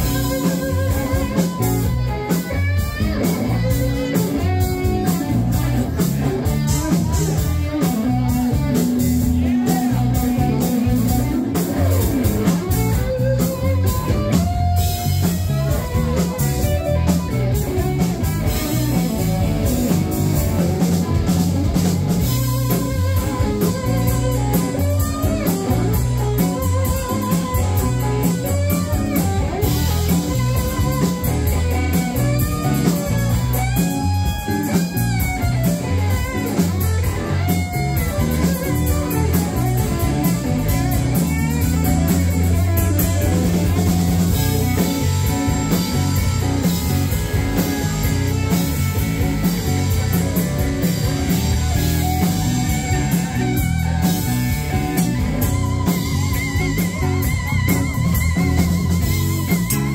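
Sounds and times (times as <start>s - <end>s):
blues-rock band playing: 0.0s - 59.9s
electric guitar lead line: 0.0s - 59.9s.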